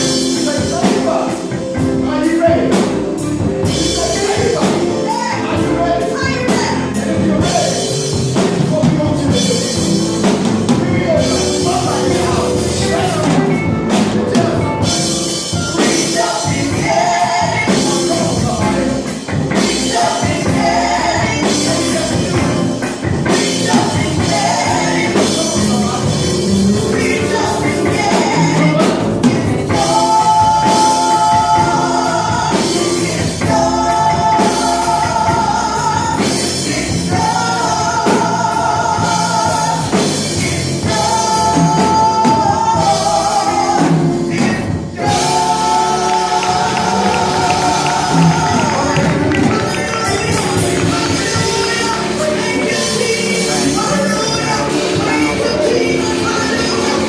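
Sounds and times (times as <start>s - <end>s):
band with drums: 0.0s - 57.0s
voices singing gospel: 0.0s - 57.0s.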